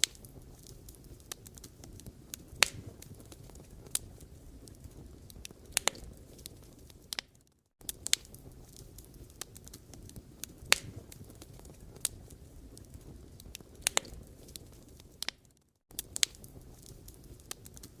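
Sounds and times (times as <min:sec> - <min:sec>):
burning wood popping and crackling: 0:00.0 - 0:18.0
log fire rumbling: 0:00.0 - 0:18.0.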